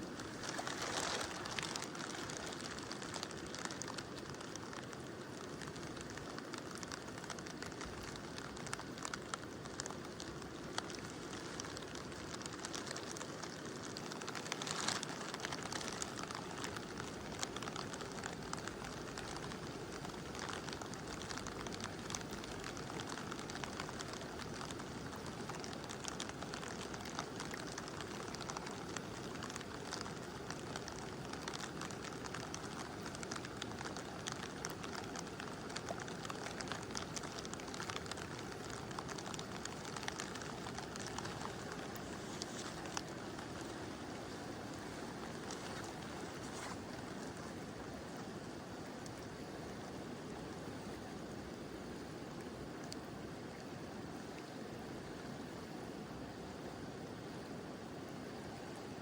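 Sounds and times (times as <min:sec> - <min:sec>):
raindrops ticking: 0:00.0 - 0:53.8
river rushing: 0:00.0 - 0:54.2.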